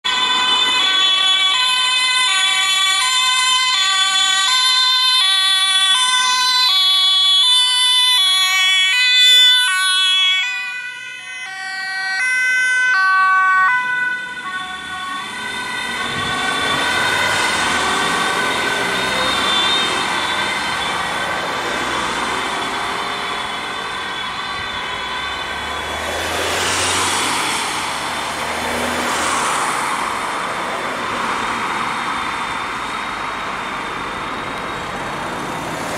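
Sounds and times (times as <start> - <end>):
road noise: 0.0 - 35.9
two-tone sirens: 0.0 - 35.9.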